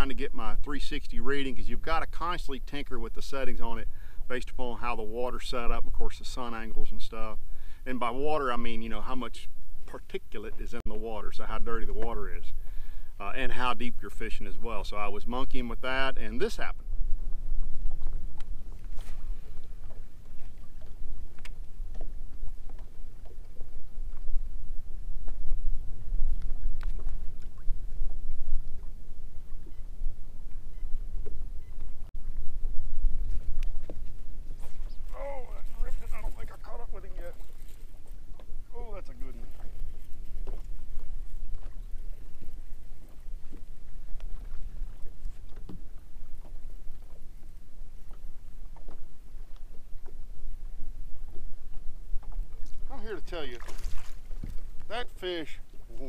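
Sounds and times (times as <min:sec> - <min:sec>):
waves lapping against boat hull: 0:00.0 - 0:56.0
wind buffeting microphone: 0:00.0 - 0:56.0.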